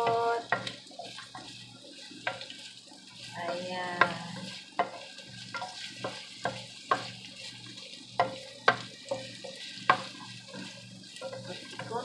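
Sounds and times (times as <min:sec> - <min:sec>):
garlic sizzling in oil: 0:00.0 - 0:12.0
spatula knocking and scraping pan: 0:00.0 - 0:12.0.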